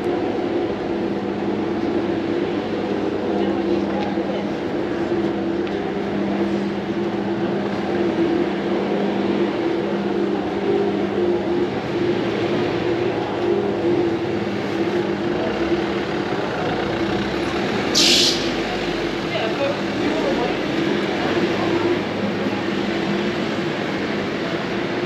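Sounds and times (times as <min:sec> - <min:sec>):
engine droning: 0:00.0 - 0:25.0
street noise: 0:00.0 - 0:25.0.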